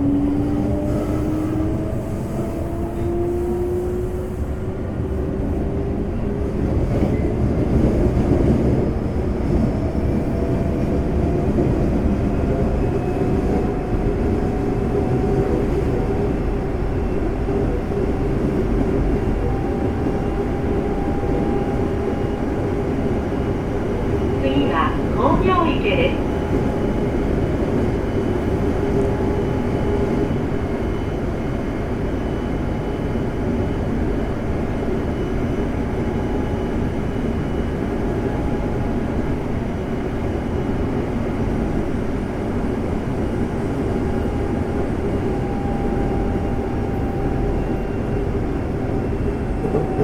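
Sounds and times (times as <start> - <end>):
wheels rumbling on rails: 0.0 - 50.0.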